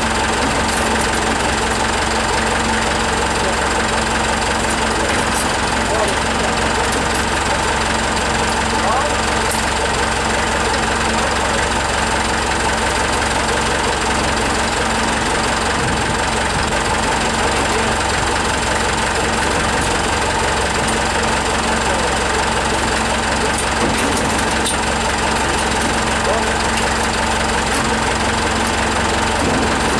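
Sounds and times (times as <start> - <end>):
forklift engine idling: 0.0 - 29.9.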